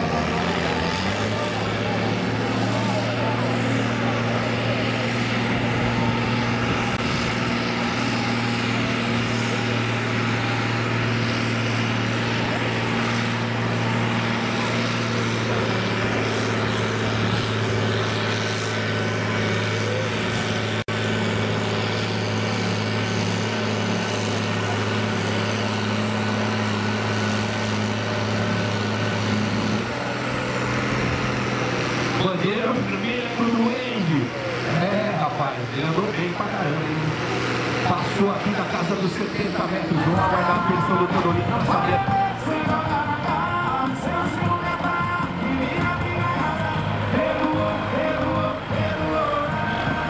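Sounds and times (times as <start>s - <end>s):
tractor diesel engine running hard: 0.0s - 50.0s.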